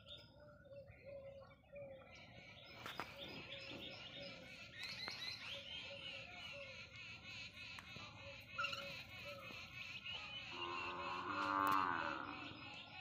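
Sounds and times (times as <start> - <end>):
small birds twittering chorus: 0.0 - 13.0.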